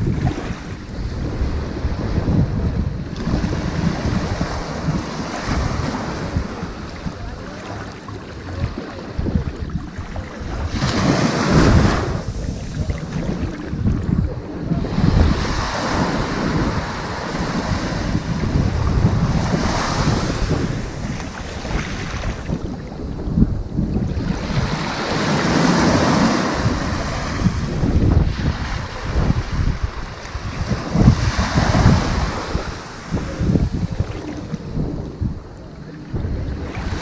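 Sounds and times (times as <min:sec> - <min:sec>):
surf washing onto beach: 0:00.0 - 0:37.0
wind rumble on microphone: 0:00.0 - 0:37.0.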